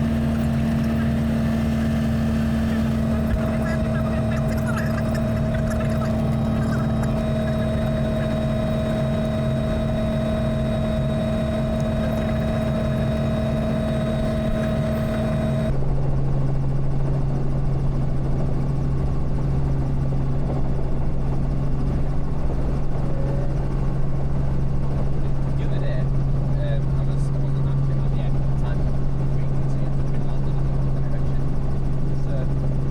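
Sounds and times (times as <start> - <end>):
helicopter engine and rotors drone: 0.0 - 32.9.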